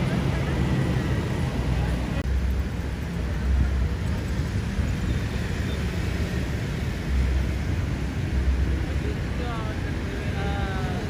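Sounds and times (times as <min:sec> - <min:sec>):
engines rumbling: 0:00.0 - 0:11.0.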